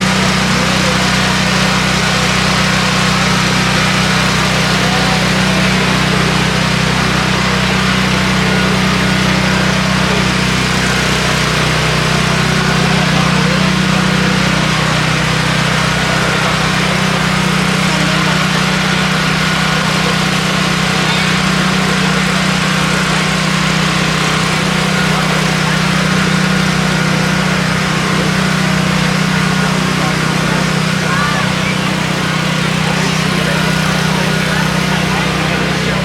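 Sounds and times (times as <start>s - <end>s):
engine idling: 0.0s - 36.0s
indistinct voices: 0.0s - 36.0s.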